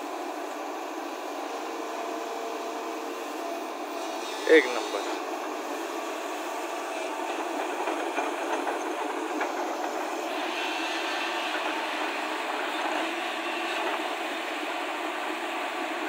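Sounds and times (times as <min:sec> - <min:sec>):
excavator engine and hydraulics: 0:00.0 - 0:16.0.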